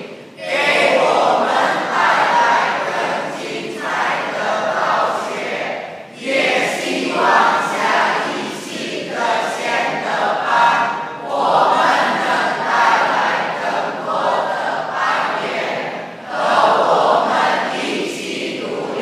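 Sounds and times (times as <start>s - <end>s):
group singing in unison: 0.0s - 19.0s.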